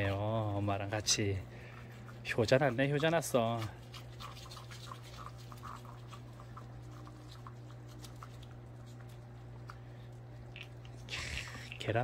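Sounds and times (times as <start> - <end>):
dogs licking and chewing: 0.0 - 12.0.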